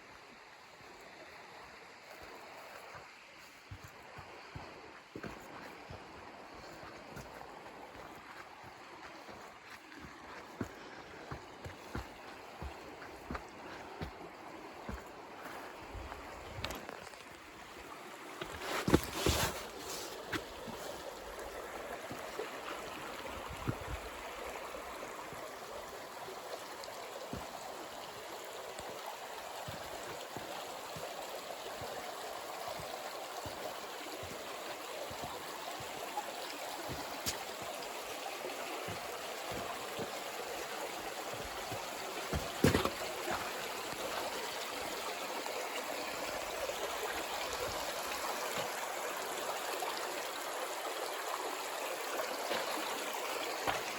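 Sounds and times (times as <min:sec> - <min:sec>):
creek water flowing over rocks: 0:00.0 - 0:53.9.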